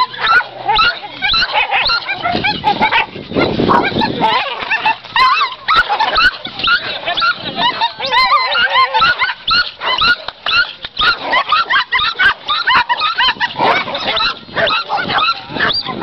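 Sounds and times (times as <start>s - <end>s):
dogs yelping and whining: 0.0s - 16.0s.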